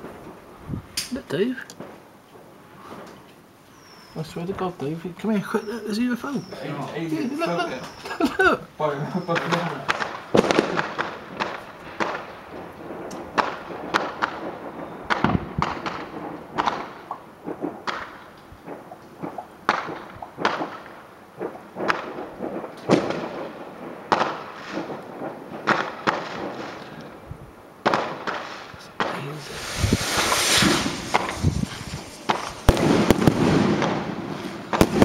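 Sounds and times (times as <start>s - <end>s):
fireworks banging: 0.0s - 35.0s.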